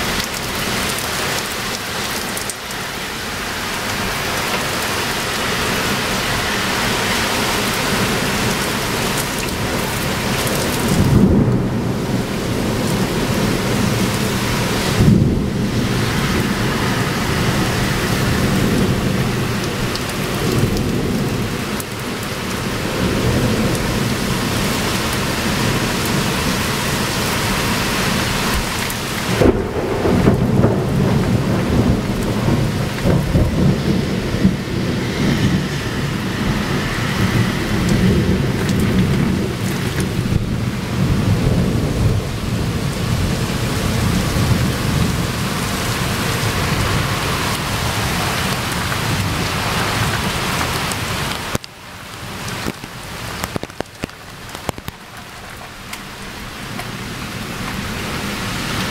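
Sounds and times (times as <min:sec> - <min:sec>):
heavy rain: 0:00.0 - 0:58.9
thunder cracking and rumbling: 0:04.3 - 0:51.7, 0:52.5 - 0:58.9.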